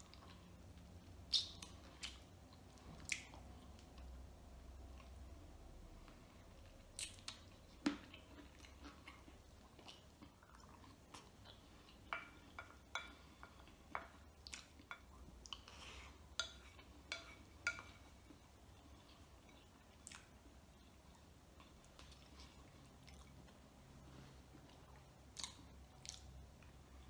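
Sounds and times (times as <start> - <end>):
person chewing food: 1.3 - 4.1, 6.0 - 27.0.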